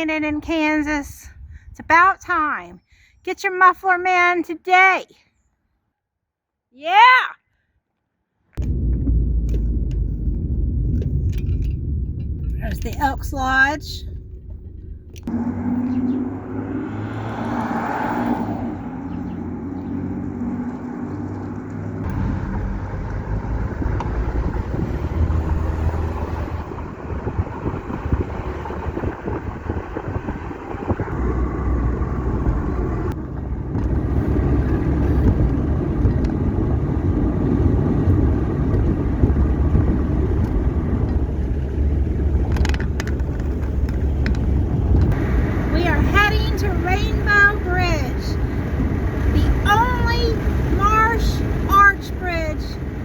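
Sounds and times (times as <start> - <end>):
road and tyre noise: 0.0 - 5.0, 8.0 - 53.0
car engine running: 8.6 - 53.0.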